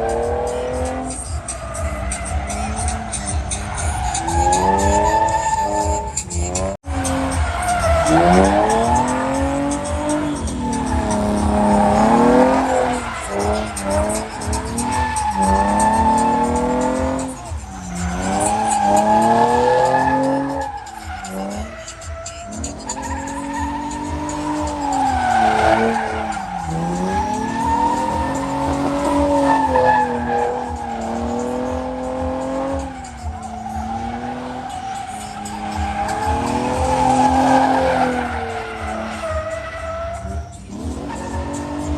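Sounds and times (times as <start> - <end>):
car engine revving: 0.0 - 41.9
tyres squealing: 0.0 - 41.9.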